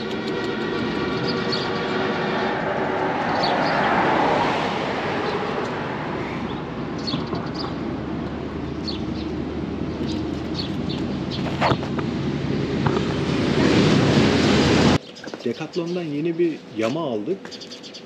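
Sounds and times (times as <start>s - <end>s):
vehicle passing: 0.0s - 15.0s
traffic hum: 0.0s - 18.0s.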